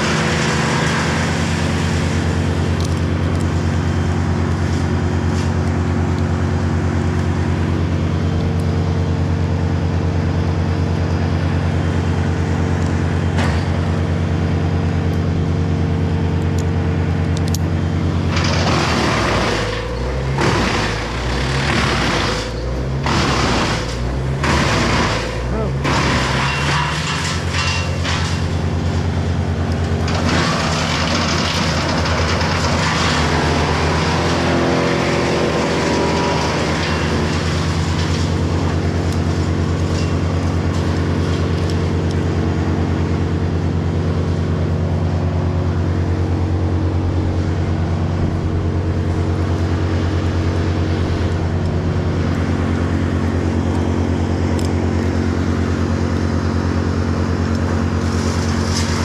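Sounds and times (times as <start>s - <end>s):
wood chipper engine running: 0.0s - 59.0s.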